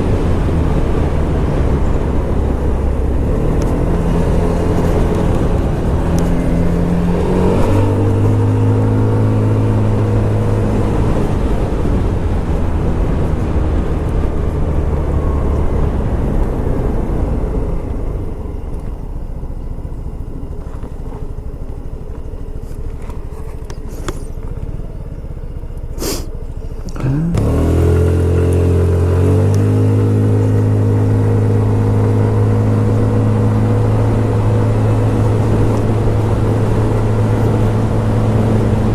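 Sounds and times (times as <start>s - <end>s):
road and wind noise: 0.0s - 38.9s
scooter engine running: 0.0s - 38.9s.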